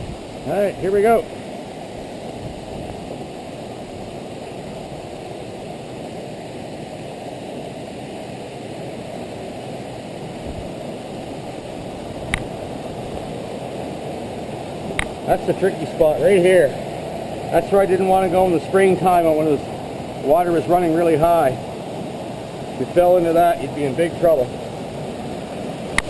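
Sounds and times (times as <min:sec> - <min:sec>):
waterfall and stream rushing: 0:00.0 - 0:26.0.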